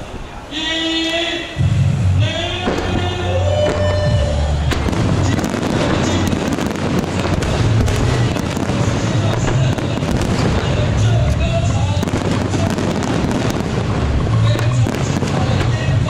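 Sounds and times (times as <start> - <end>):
fireworks crackling: 0.0 - 16.0
low rumble: 1.6 - 16.0
music playing: 1.6 - 16.0.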